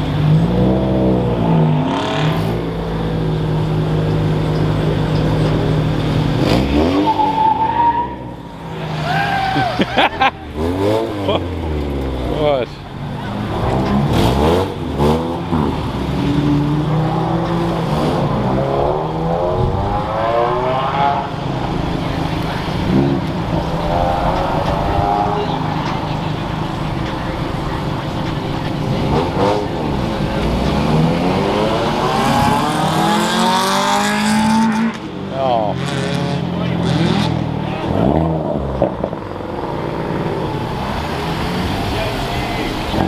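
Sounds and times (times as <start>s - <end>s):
car engines accelerating: 0.0s - 43.0s.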